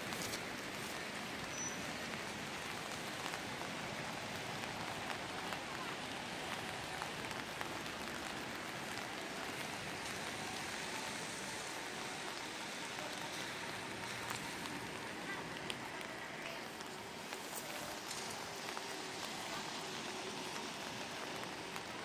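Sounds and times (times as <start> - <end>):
rain on wet pavement: 0.0 - 22.0
raindrops ticking: 0.0 - 22.0.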